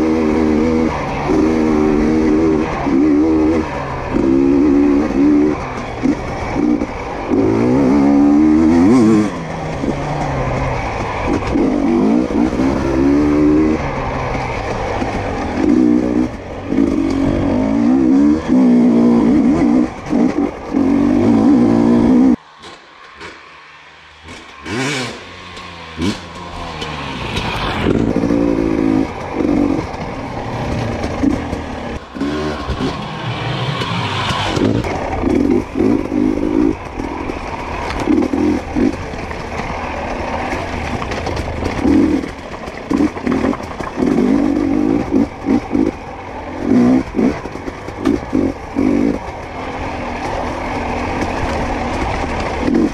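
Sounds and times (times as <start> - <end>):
dirt bike engine revving: 0.0 - 22.4, 24.2 - 52.9.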